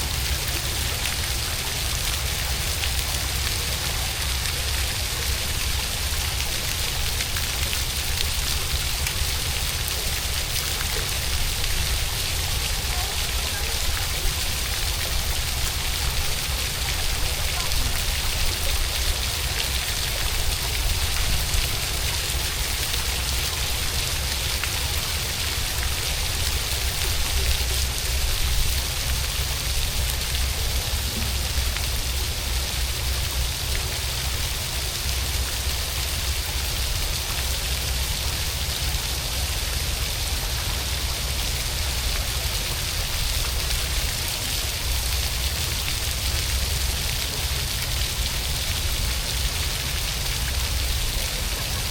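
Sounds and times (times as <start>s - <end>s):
rain pattering on wet surfaces: 0.0s - 51.9s.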